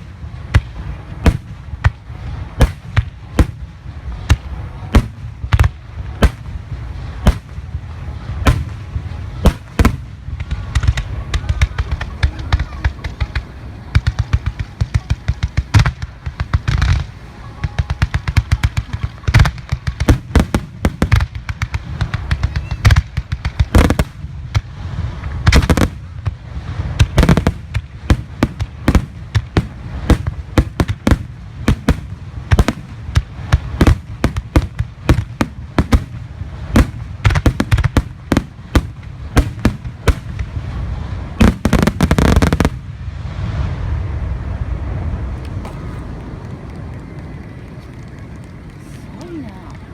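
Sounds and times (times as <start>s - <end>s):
constant low rumble: 0.0s - 49.9s
fireworks bangs: 0.0s - 49.9s.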